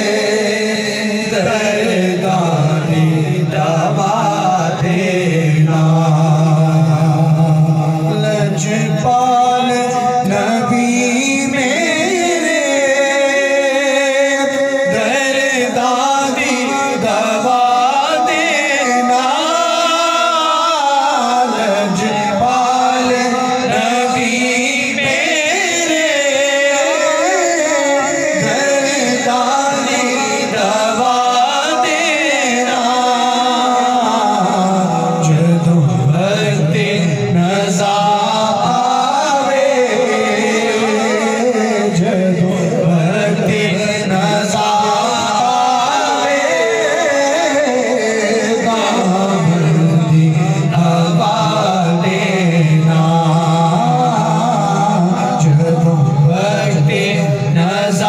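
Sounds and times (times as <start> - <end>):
man singing into a microphone: 0.0 - 58.0.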